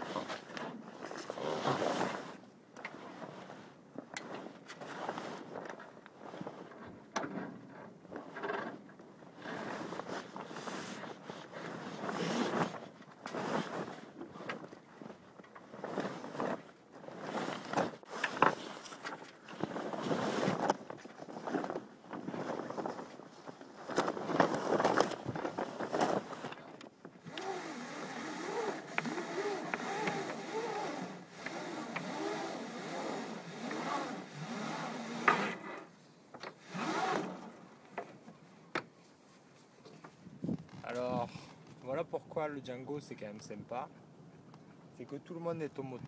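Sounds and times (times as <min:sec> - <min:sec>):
fabric rustling on microphone: 0:00.0 - 0:07.1, 0:08.0 - 0:42.0.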